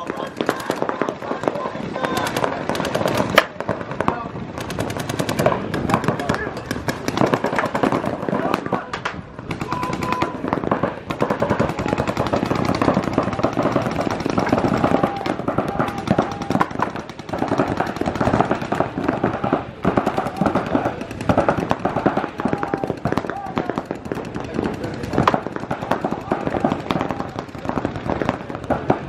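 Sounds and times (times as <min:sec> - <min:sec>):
paintball guns firing rapidly: 0:00.0 - 0:29.0.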